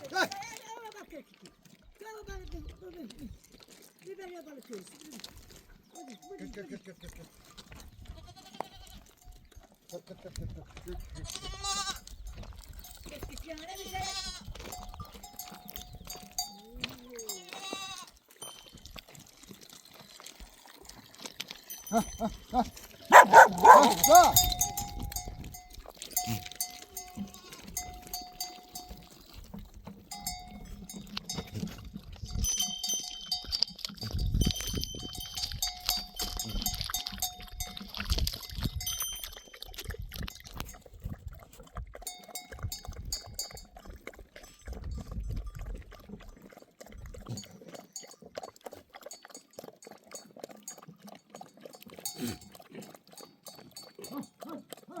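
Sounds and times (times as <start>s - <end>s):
sheep bells clanking: 5.8s - 9.5s, 10.8s - 20.2s, 20.8s - 40.9s, 42.0s - 45.6s, 47.0s - 54.6s.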